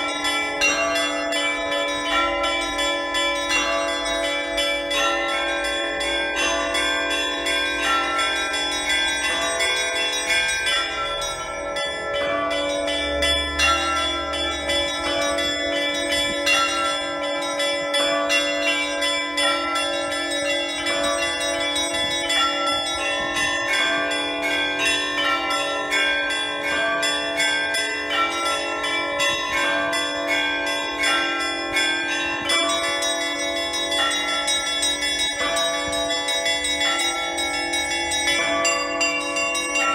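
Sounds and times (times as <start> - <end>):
deep church bell: 0.0 - 39.9
small church bells ringing: 0.0 - 39.9.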